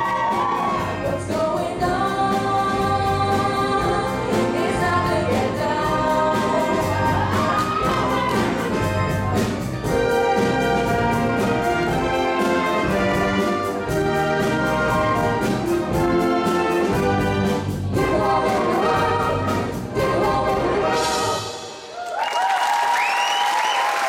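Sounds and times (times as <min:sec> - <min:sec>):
orchestra playing soul tune: 0:00.0 - 0:22.0.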